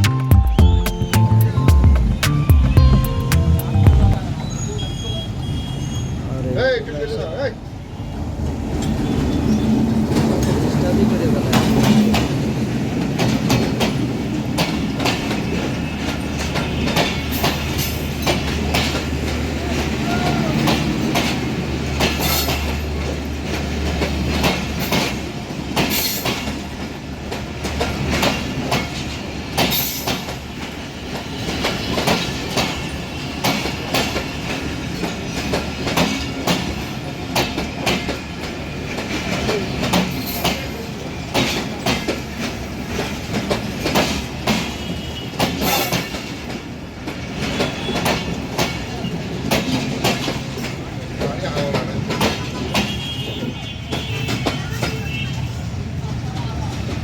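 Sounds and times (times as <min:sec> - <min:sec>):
train wheels clacking on rails: 0:08.4 - 0:57.0.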